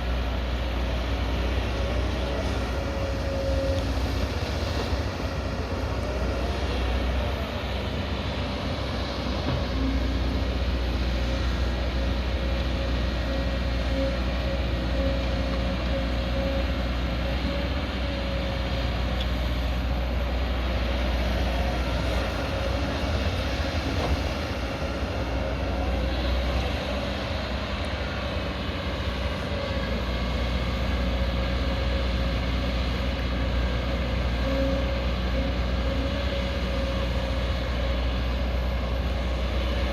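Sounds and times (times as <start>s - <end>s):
excavator diesel engine running: 0.0s - 39.9s
steady whine: 0.0s - 39.9s.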